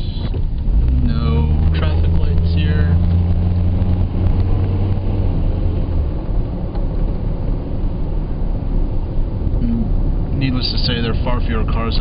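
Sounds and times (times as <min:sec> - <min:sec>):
car engine hum: 0:00.0 - 0:12.0
tyres rumbling on road: 0:00.0 - 0:12.0.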